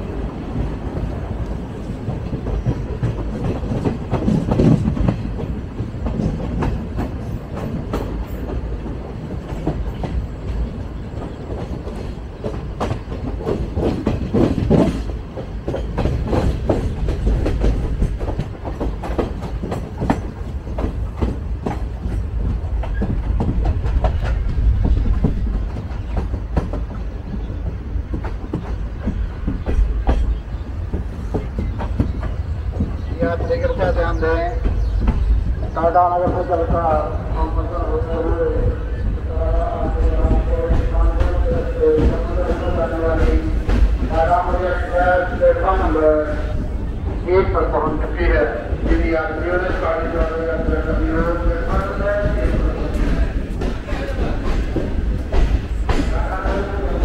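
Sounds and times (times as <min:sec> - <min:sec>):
clickety-clack of wheels on rail joints: 0:00.0 - 0:57.0
train rumbling on track: 0:00.0 - 0:57.0.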